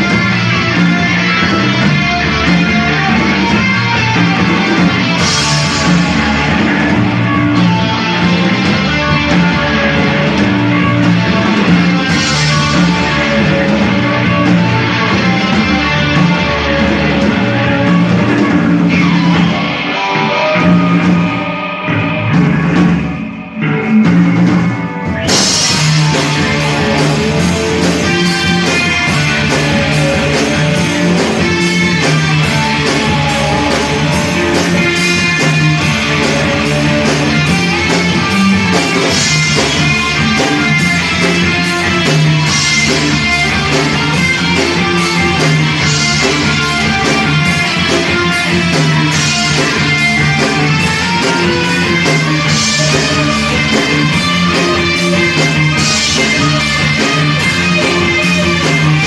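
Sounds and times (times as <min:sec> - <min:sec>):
drum kit beat: 0:00.0 - 0:59.0
electric guitar: 0:00.0 - 0:59.0.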